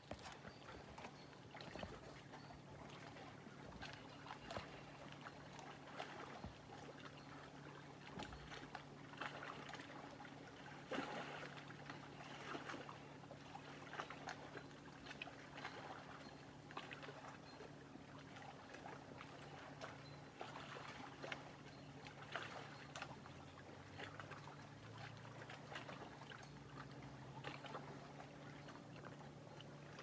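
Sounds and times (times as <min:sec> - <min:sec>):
small waves lapping: 0:00.0 - 0:30.0.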